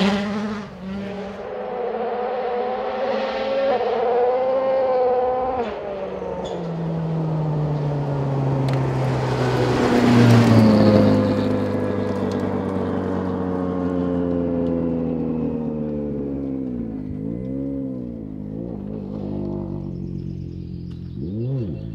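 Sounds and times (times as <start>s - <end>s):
rally car engine drone: 0.0s - 21.9s.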